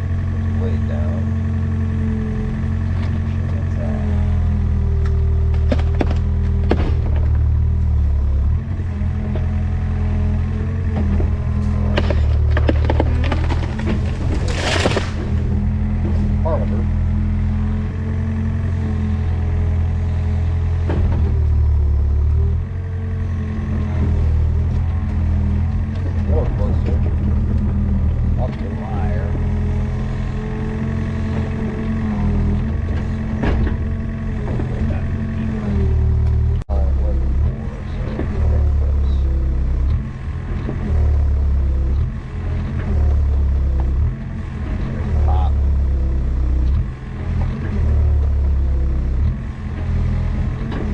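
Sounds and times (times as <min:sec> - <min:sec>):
excavator engine running: 0:00.0 - 0:50.9.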